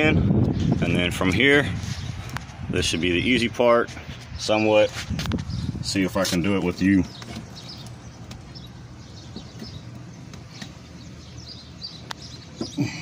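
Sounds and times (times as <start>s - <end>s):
birds chirping: 0.0s - 13.0s
steady low hum: 0.1s - 13.0s.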